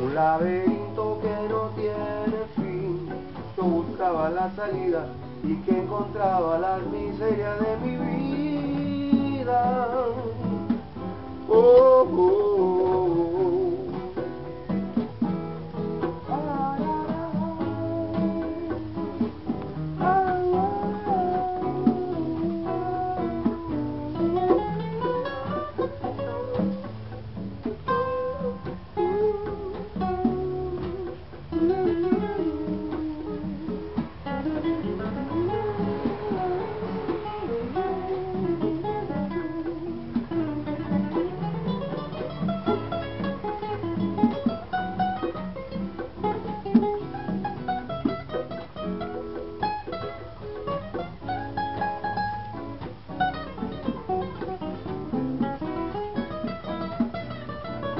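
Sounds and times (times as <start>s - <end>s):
conga drums: 0.0s - 57.9s
guitars playing: 0.0s - 57.9s.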